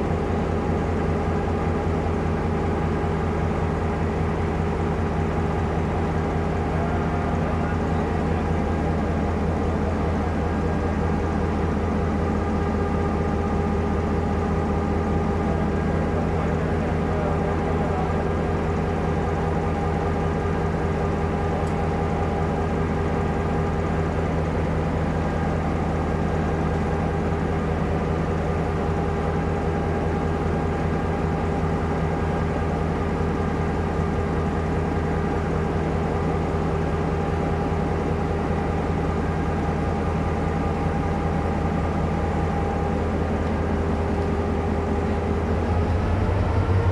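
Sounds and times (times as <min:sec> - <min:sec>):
diesel locomotive engine running: 0:00.0 - 0:46.9.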